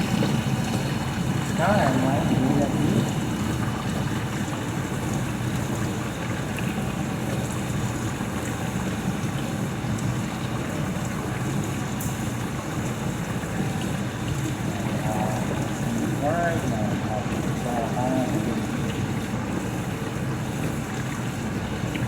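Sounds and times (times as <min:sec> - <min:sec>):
appliance whirring rumble: 0:00.0 - 0:22.0.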